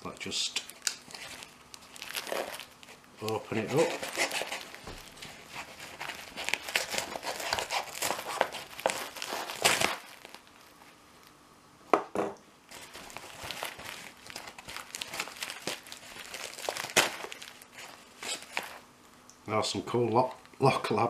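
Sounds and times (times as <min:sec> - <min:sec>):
packaging crinkling and tearing: 0:00.0 - 0:11.0, 0:12.7 - 0:19.0.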